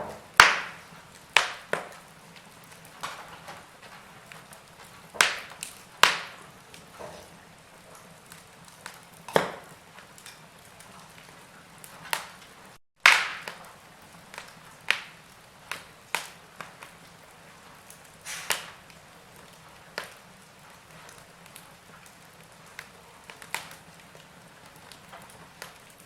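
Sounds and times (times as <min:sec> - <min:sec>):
low fire hiss: 0:00.0 - 0:26.0
sharp fire pops: 0:00.0 - 0:26.0
wood fire crackling: 0:00.0 - 0:26.0.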